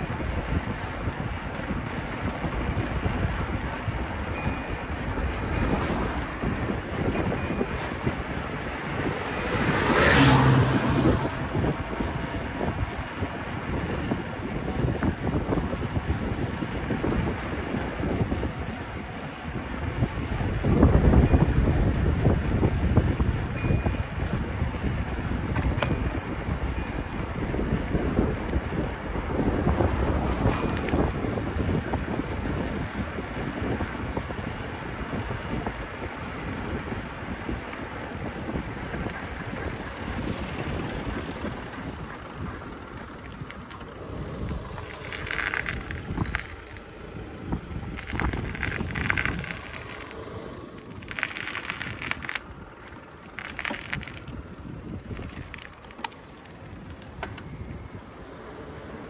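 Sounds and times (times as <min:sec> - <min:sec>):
rolling road noise: 0:00.0 - 0:59.0
wind rushing over microphone: 0:00.0 - 0:59.0.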